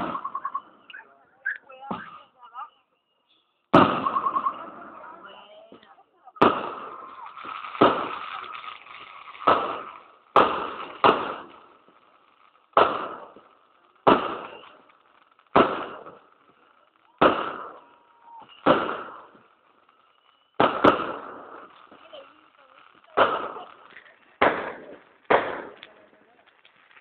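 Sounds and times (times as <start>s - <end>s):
fireworks bursting bangs: 0.0s - 2.7s, 3.3s - 27.0s.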